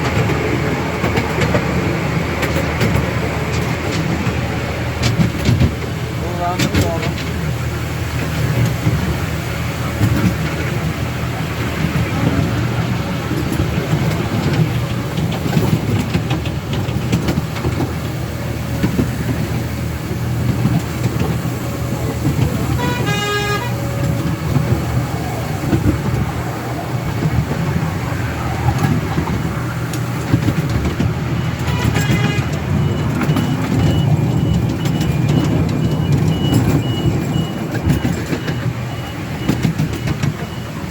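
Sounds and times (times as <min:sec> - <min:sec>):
locomotive toot: 0:00.0 - 0:40.9
miniature train rumbling: 0:00.0 - 0:40.9
wheels clicking on track: 0:00.0 - 0:40.9.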